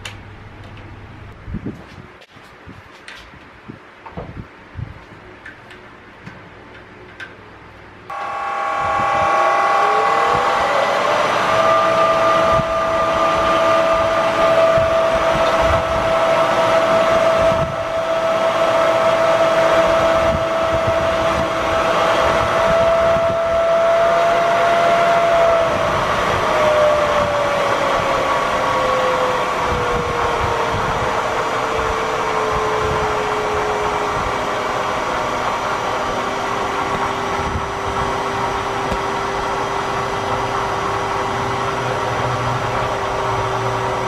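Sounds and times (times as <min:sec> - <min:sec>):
milling machine motor whining: 0:08.1 - 0:44.0.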